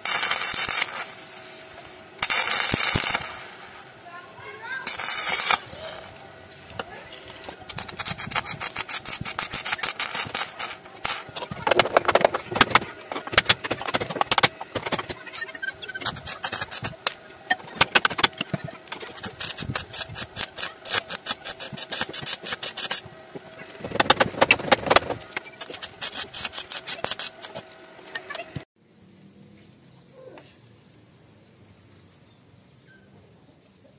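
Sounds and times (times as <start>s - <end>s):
arc welder crackling: 0.0s - 28.7s.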